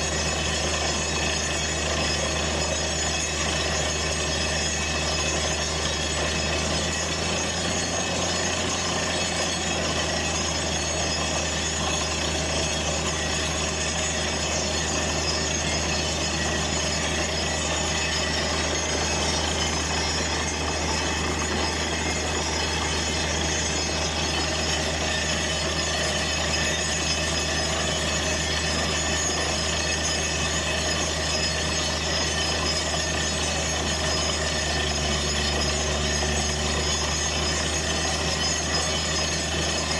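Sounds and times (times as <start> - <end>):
drilling rig machine drone: 0.0 - 39.9.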